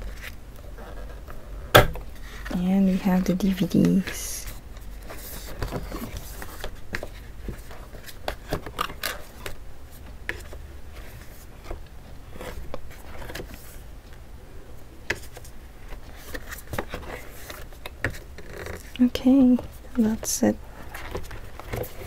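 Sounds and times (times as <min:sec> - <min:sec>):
cardboard pages turning: 0:00.0 - 0:13.8, 0:15.1 - 0:22.0.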